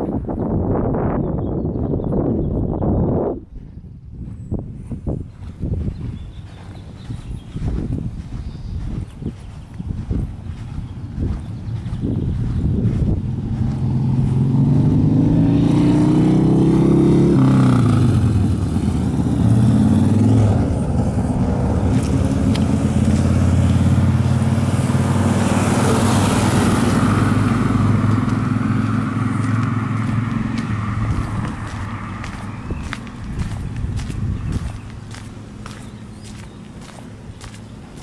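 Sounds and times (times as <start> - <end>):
vehicle engine accelerating: 5.3 - 38.0.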